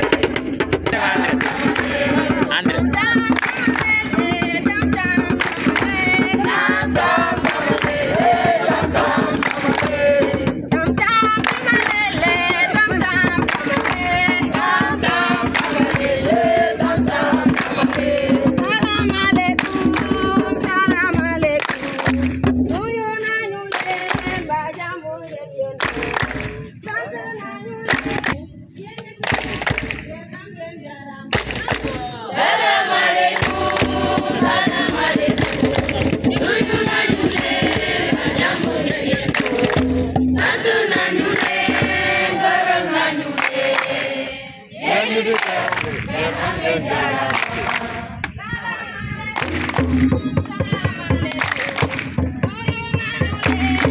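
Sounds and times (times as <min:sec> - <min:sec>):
group singing and chanting: 0:00.0 - 0:53.9
rhythmic percussion: 0:00.0 - 0:53.9.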